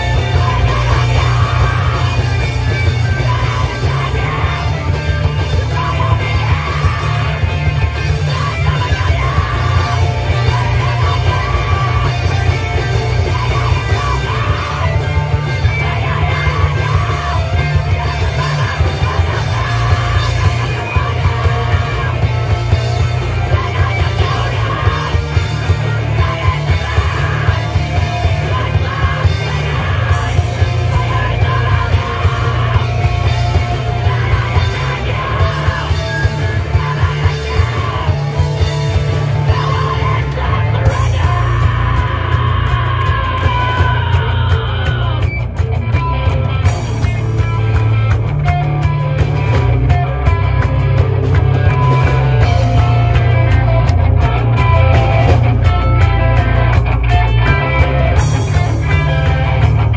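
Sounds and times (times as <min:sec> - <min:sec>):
live punk band playing: 0:00.0 - 0:59.9.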